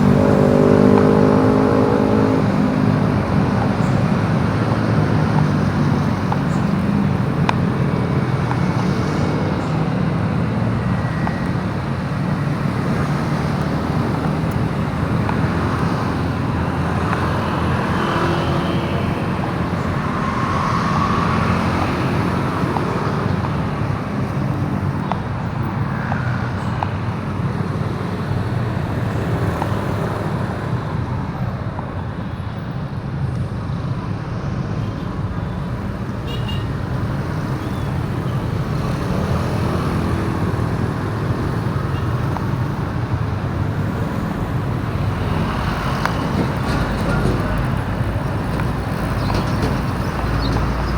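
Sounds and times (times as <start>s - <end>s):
road noise: 0.0s - 50.9s.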